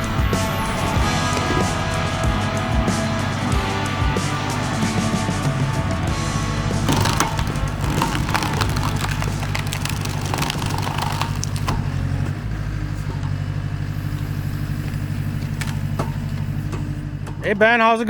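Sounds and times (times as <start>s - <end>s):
skid steer engine running: 0.0s - 18.0s.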